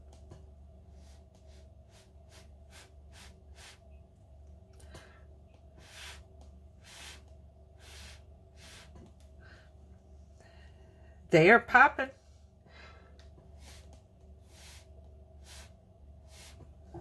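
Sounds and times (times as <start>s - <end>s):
faint steady hum: 0.0s - 17.0s
soft puffs of air: 0.8s - 4.0s, 4.8s - 11.3s, 12.2s - 16.9s.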